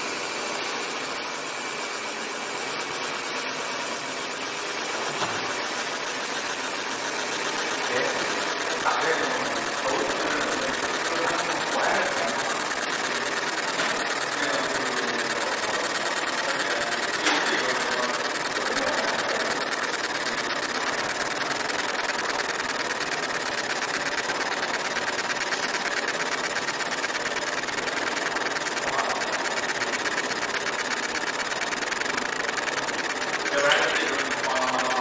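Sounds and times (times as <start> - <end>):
laser marking machine buzzing: 0.0 - 35.0.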